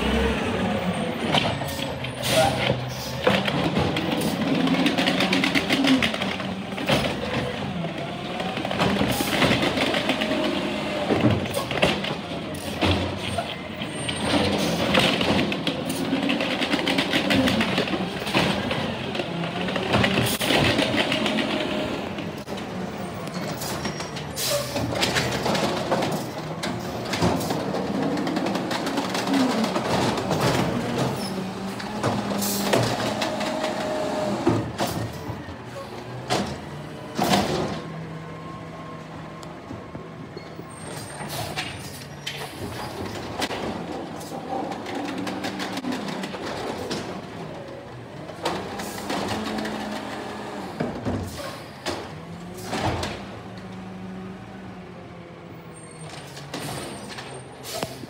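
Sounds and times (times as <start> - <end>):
garbage truck engine revving: 0.0 - 39.4, 40.2 - 58.0.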